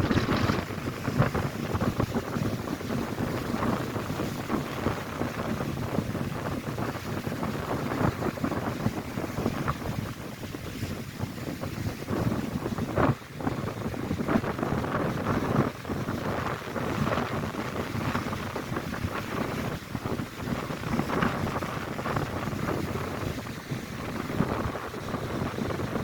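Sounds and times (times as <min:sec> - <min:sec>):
gusty wind on microphone: 0:00.0 - 0:26.0
waves breaking on shore: 0:00.0 - 0:26.0.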